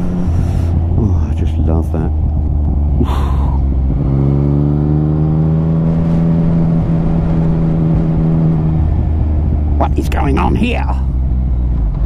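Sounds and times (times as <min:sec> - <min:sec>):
motorcycle engine pulling away: 0:00.0 - 0:09.8
wind rumble on microphone: 0:00.0 - 0:12.0.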